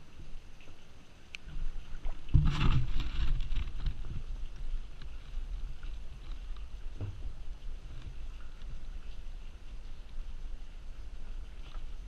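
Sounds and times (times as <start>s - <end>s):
low wind rumble on microphone: 1.5s - 12.0s.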